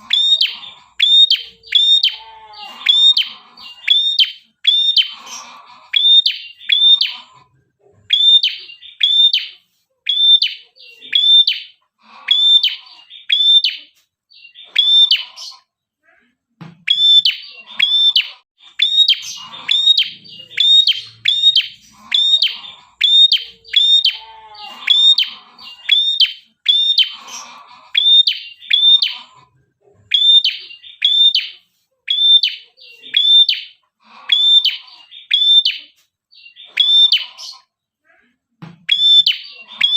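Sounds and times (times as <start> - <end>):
songbird chirping: 0.0 - 16.0, 16.7 - 38.0, 38.7 - 39.9.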